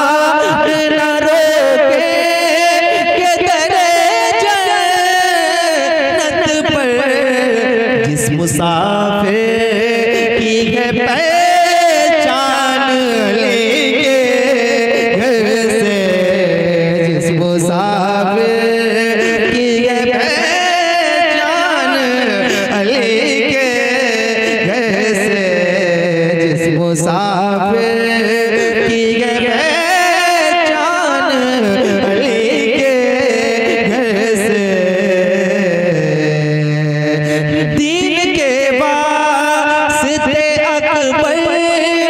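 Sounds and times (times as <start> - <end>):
man singing devotional song: 0.0 - 42.0.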